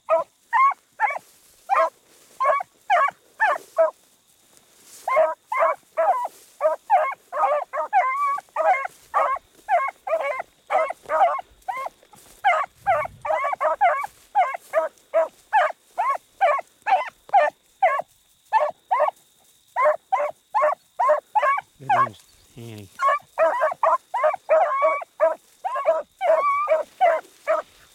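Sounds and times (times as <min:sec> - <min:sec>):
dogs baying: 0:00.0 - 0:04.0, 0:05.0 - 0:19.2, 0:19.8 - 0:27.9.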